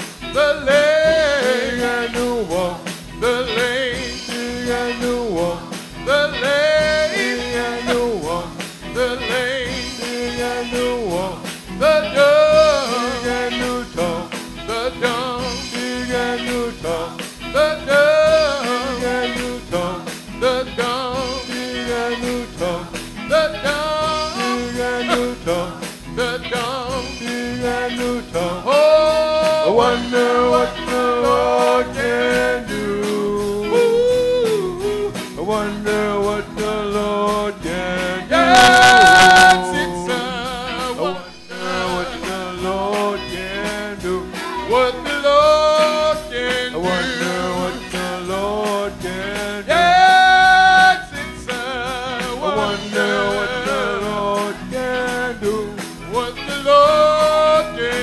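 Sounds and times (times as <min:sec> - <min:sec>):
band with drums: 0:00.0 - 0:58.0
person singing gospel: 0:00.0 - 0:58.0.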